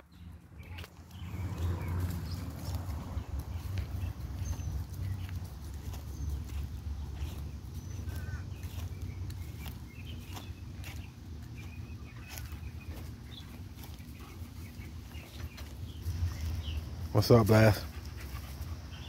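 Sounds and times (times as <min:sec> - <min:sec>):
footsteps crunching on dry leaves: 0:00.8 - 0:18.9.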